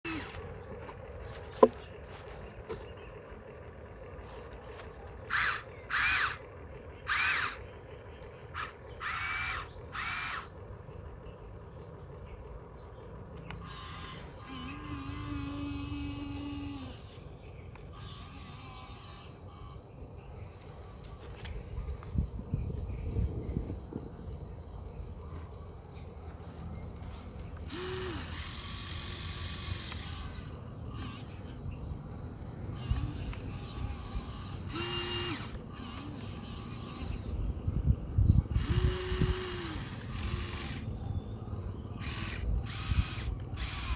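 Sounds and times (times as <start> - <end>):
electric motors whining: 0.0 - 43.9.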